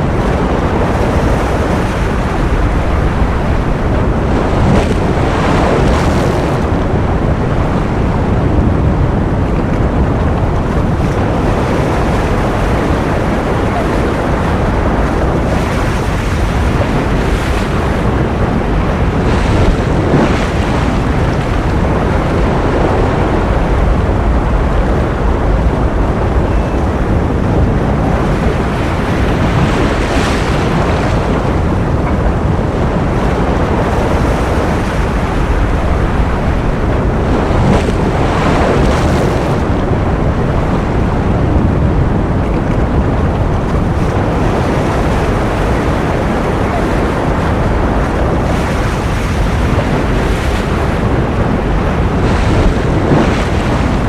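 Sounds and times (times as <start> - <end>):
ocean waves rushing: 0.0 - 54.0.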